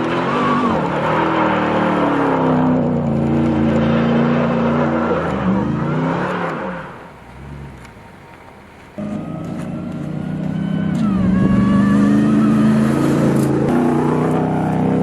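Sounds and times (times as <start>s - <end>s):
truck engine running under load: 0.0s - 15.0s.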